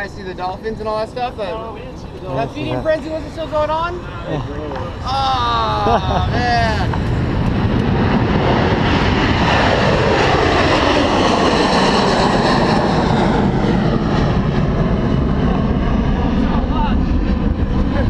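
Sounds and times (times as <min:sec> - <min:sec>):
helicopter rotor and turbine: 0:00.0 - 0:18.0.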